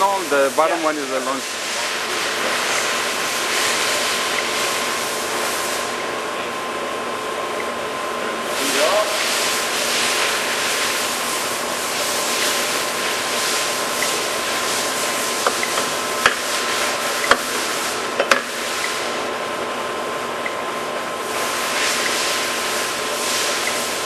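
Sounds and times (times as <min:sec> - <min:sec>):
lathe whirring with whine: 0:00.0 - 0:24.0.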